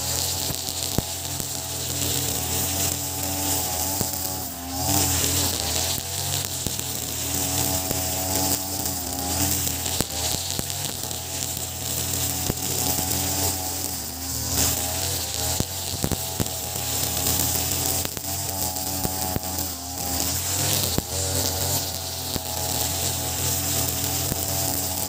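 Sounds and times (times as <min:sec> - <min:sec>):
brush cutter engine running: 0:00.0 - 0:25.0
nylon line slicing grass: 0:00.0 - 0:25.0
sharp ticks: 0:00.0 - 0:25.0.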